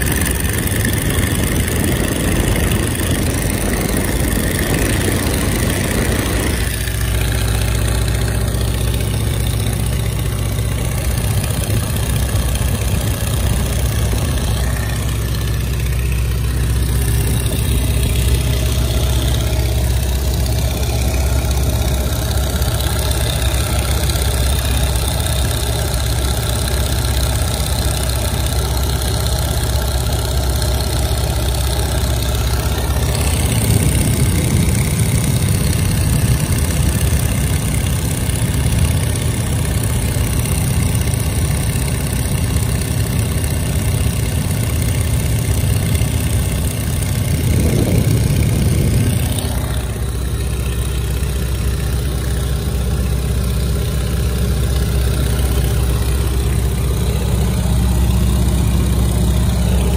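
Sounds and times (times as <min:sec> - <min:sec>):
biplane engine running: 0:00.0 - 0:59.9.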